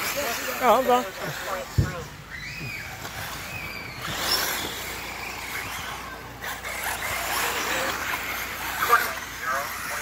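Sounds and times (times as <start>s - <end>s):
toy car motors whining: 0.0s - 10.0s.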